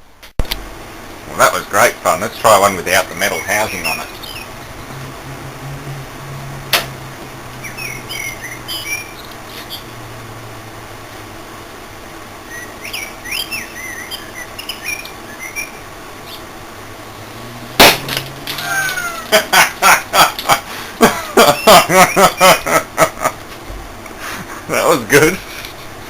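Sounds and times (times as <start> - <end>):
low electrical hum: 0.0 - 26.0
birds chirping: 1.4 - 26.0.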